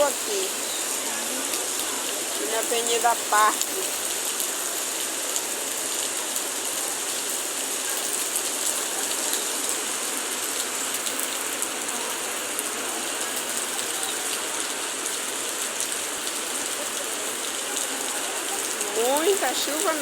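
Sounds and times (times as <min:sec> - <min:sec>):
heavy rain falling: 0:00.0 - 0:20.0
runoff water rushing over pavement: 0:00.0 - 0:20.0.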